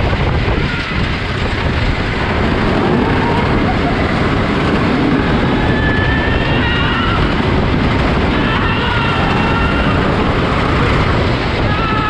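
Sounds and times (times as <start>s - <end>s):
roller coaster rushing and rumbling: 0.0s - 12.0s.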